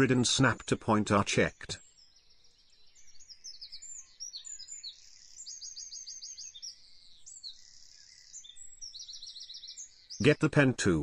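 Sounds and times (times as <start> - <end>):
birds chirping and trilling: 0.0 - 11.0.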